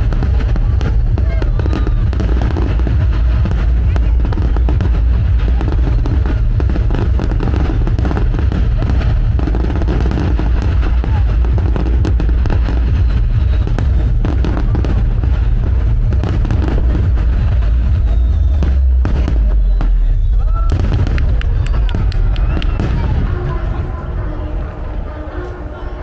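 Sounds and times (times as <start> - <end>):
fireworks bangs and crackling: 0.0 - 26.0
low booming: 0.0 - 26.0.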